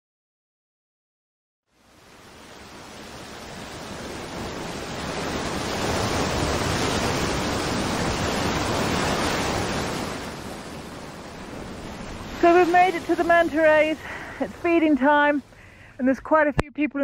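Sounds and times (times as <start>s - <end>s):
waves breaking on rocky shore: 1.8s - 16.0s.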